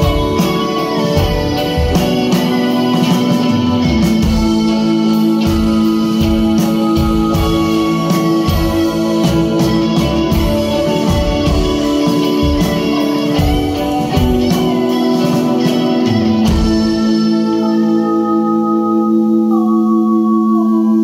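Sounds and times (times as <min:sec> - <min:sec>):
drums hitting: 0:00.0 - 0:17.4
held chord ringing: 0:00.0 - 0:21.0
rock band playing loudly: 0:00.0 - 0:21.0.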